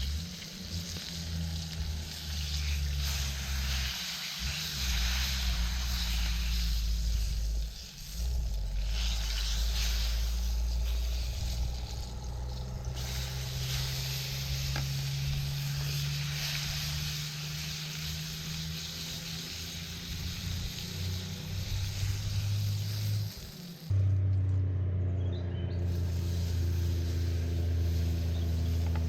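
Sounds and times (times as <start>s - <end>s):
food sizzling in a pan: 0.0s - 23.9s, 25.8s - 29.0s
low steady drone: 0.0s - 29.0s.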